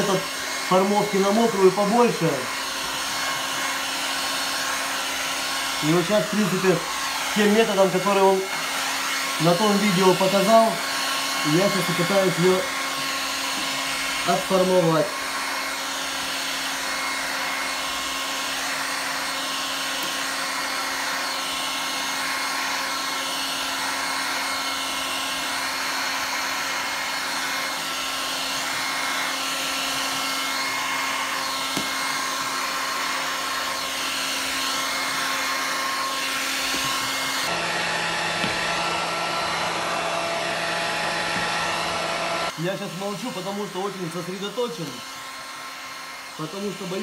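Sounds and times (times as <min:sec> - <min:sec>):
heat gun blowing hot air: 0:00.0 - 0:47.0.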